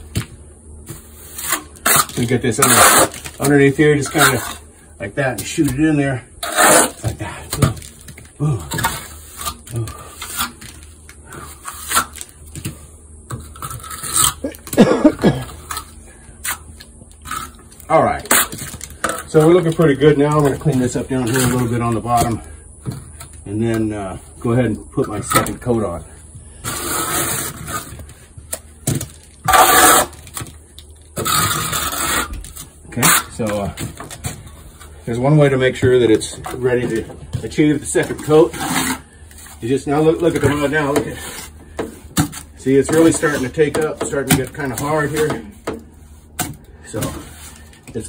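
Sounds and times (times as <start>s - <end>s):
trowel scraping wet stucco: 0.9s - 8.1s, 8.7s - 12.4s, 13.3s - 24.0s, 26.6s - 28.1s, 29.4s - 30.6s, 31.2s - 45.7s.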